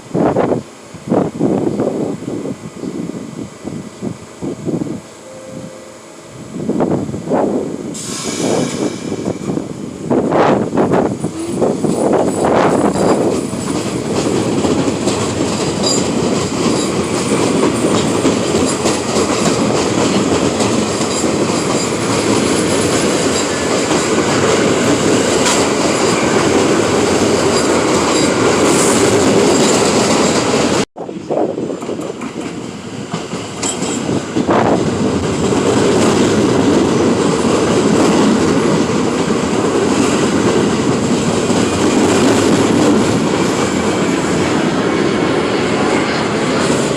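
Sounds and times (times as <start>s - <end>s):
subway train rumble and rattle: 0.0s - 46.9s.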